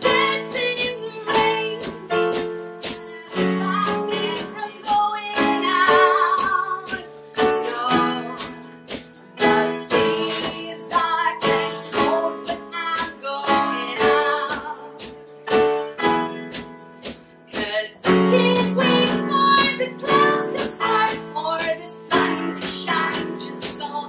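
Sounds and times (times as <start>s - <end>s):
woman singing: 0.0s - 2.3s, 2.9s - 8.7s, 9.4s - 15.0s, 17.5s - 24.0s
drums played with sticks: 0.0s - 24.0s
piano: 0.0s - 24.0s.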